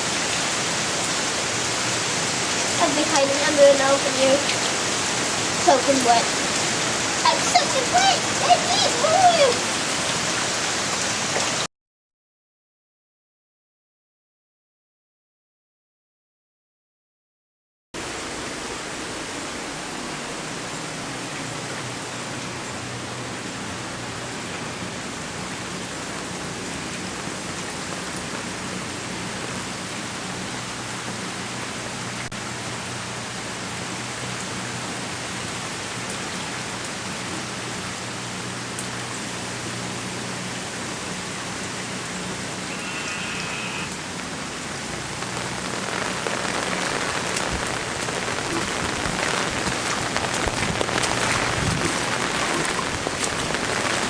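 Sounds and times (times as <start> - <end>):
heavy rain falling: 0.0 - 11.7, 18.0 - 54.0.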